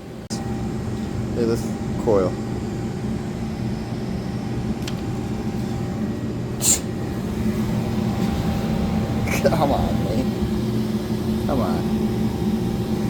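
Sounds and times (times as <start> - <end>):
gas furnace humming: 0.0 - 13.0.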